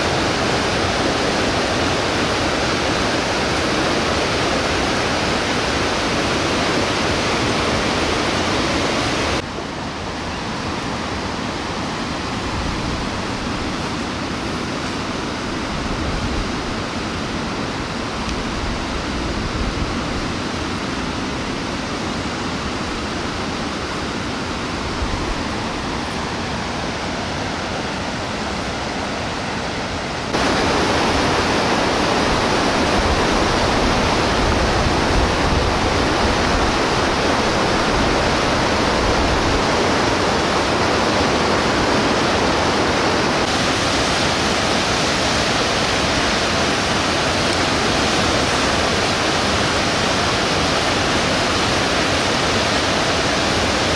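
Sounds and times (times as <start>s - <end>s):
rushing mountain river: 0.0s - 53.9s.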